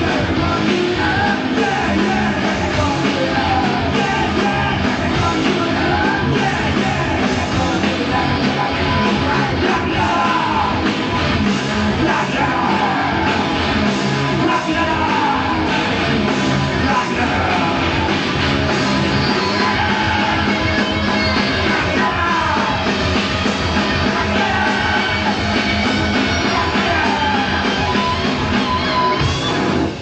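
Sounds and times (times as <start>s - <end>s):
bass guitar: 0.0s - 30.0s
drums playing driving beat: 0.0s - 30.0s
electric guitar: 0.0s - 30.0s.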